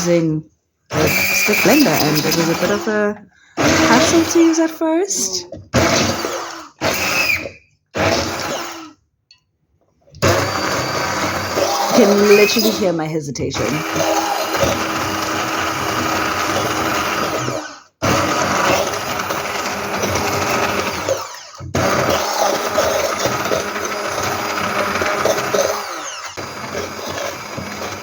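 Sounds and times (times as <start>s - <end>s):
stick blender pureeing: 0.0s - 9.0s, 10.0s - 28.0s.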